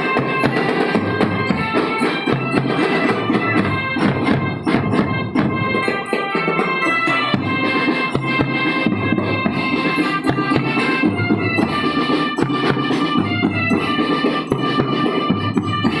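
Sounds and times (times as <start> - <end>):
marching drum strokes: 0.0 - 16.0
sustained melody line: 0.0 - 16.0.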